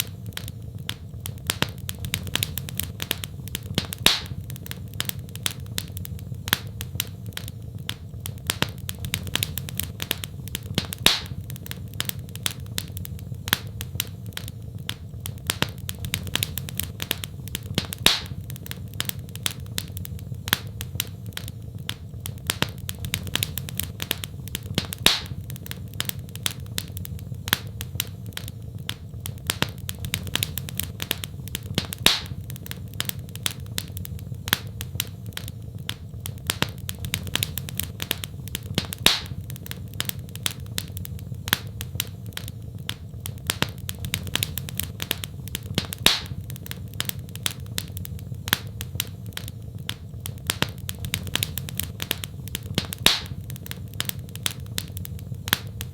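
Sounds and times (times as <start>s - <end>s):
loud fire pop: 0.0s - 55.9s
wood fire crackling: 0.0s - 55.9s.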